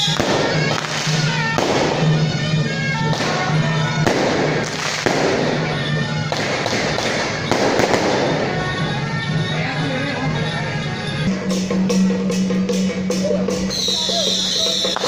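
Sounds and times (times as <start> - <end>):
firecrackers crackling: 0.0 - 11.3, 13.6 - 15.0
procession music: 0.0 - 15.0.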